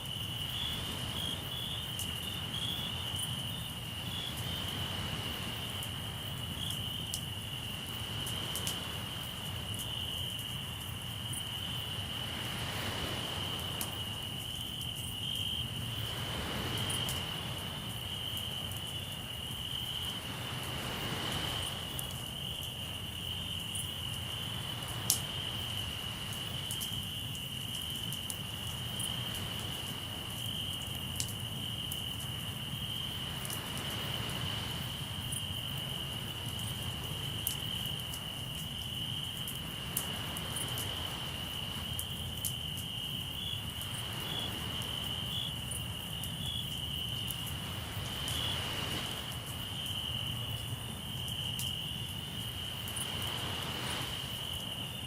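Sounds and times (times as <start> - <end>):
crackling campfire: 0.0 - 55.0
crickets trilling: 0.0 - 55.0
sea waves: 0.1 - 6.6, 7.4 - 9.7, 11.3 - 14.5, 15.5 - 27.0, 28.0 - 31.1, 32.5 - 42.5, 43.1 - 55.0.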